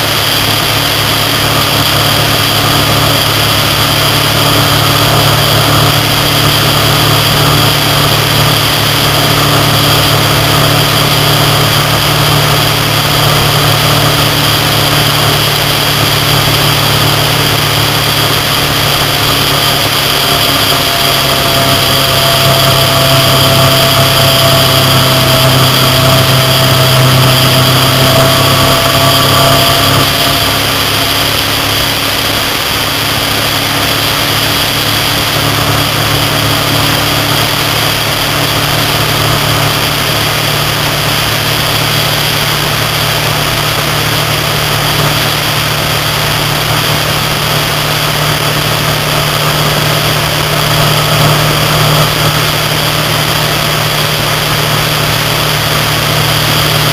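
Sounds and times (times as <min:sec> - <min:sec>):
motorcycle engine cruising: 0:00.0 - 0:56.9
road noise: 0:00.0 - 0:56.9
wind noise: 0:00.0 - 0:56.9.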